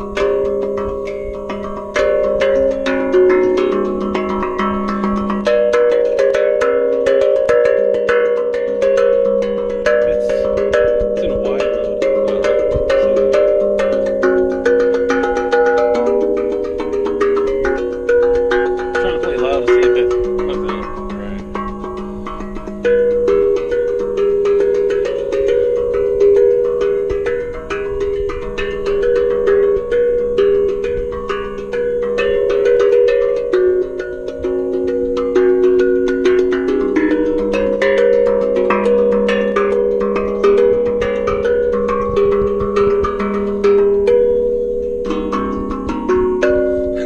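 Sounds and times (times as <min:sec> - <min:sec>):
steel tongue drum notes: 0:00.0 - 0:47.0.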